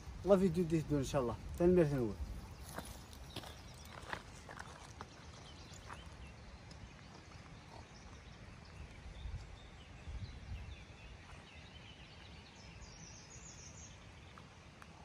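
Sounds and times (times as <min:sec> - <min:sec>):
wind rumbling on microphone: 0:00.0 - 0:15.0
small bird chirps: 0:02.2 - 0:14.5.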